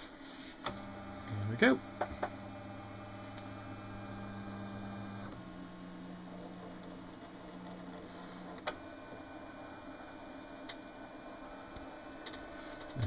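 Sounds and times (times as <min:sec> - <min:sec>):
scanner motor hum: 0:00.6 - 0:13.0
faint high whine: 0:00.8 - 0:13.0.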